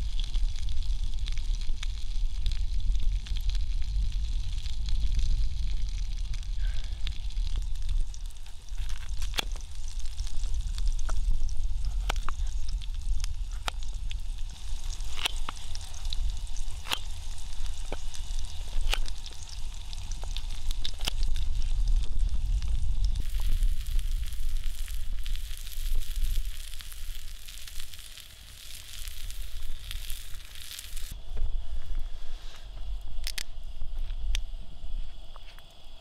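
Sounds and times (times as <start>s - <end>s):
onions sizzling in a skillet: 0.0s - 31.2s
steady low rumble: 0.0s - 36.0s.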